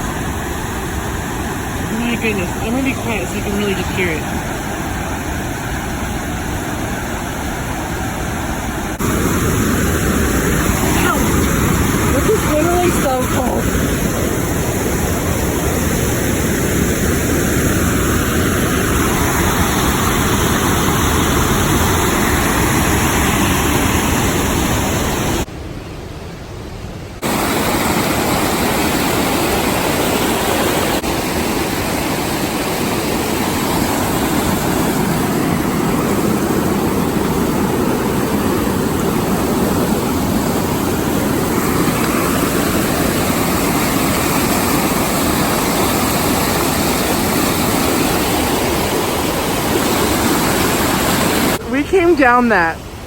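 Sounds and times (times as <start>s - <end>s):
fast-flowing water rushing: 0.0s - 25.5s, 27.2s - 53.0s.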